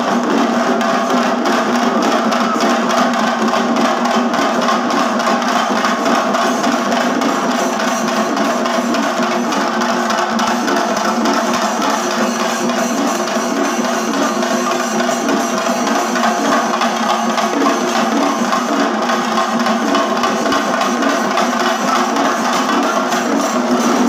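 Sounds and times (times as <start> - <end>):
drum ensemble fast rhythm: 0.0 - 24.0.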